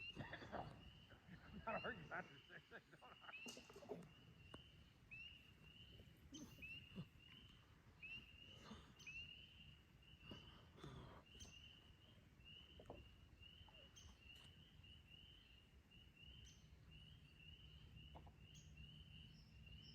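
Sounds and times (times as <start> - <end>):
frogs peeping: 0.0 - 19.9.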